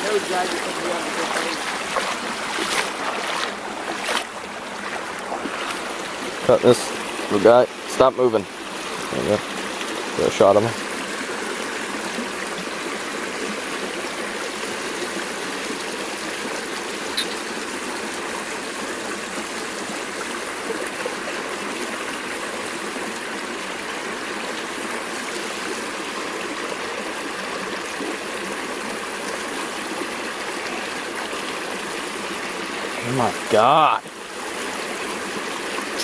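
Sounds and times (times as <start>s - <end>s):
creek water babbling: 0.0s - 36.0s.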